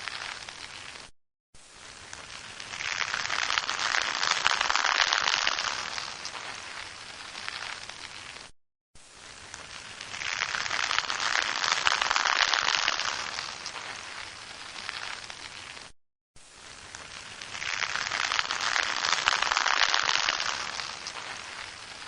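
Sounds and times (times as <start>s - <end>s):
rain falling: 0.0s - 1.1s, 1.7s - 8.5s, 9.1s - 22.0s.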